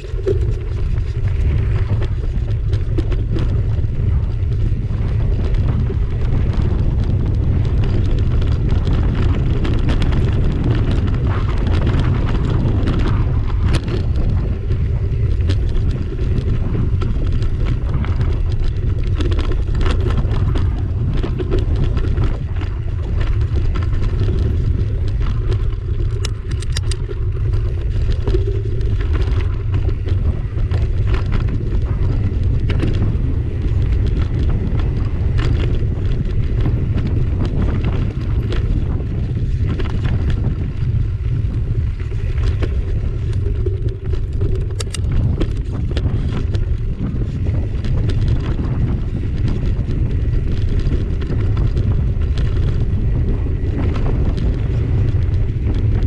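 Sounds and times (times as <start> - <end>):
stones clicking and bike rattling: 0.0 - 56.0
wind and tyre rumble: 0.0 - 56.0.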